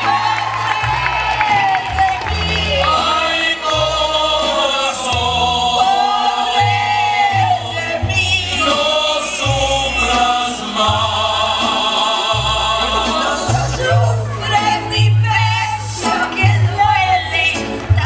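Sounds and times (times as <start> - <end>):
deep bass notes: 0.9 - 18.0.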